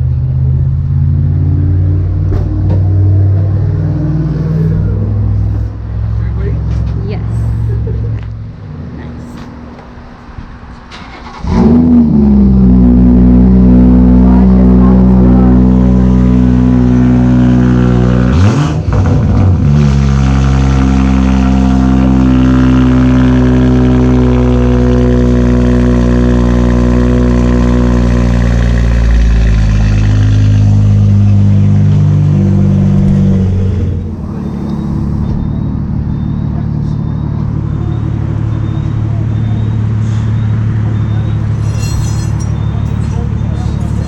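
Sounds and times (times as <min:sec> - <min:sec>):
car engine revving and idling: 0:00.0 - 0:44.0.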